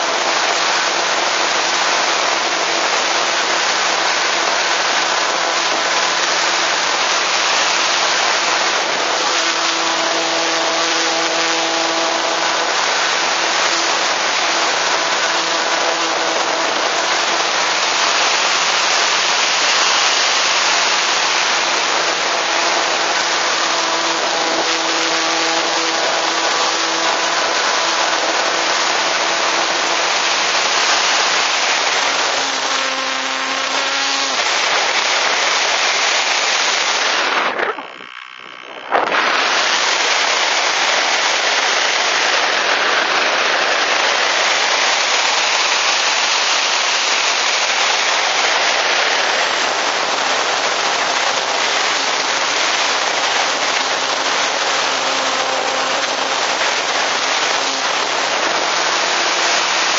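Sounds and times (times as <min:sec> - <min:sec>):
electric motor and propeller whine: 0:00.0 - 0:59.9.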